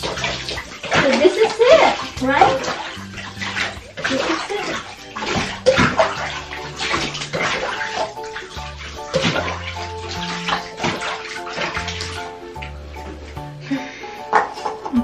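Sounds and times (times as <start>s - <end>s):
background music: 0.0s - 15.0s
water splashing into tub: 0.0s - 15.0s.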